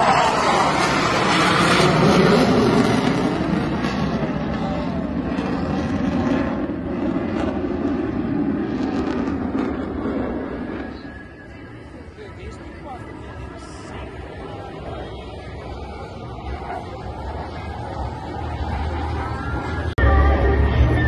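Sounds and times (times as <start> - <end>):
jet aircraft flying overhead: 0.0 - 21.0.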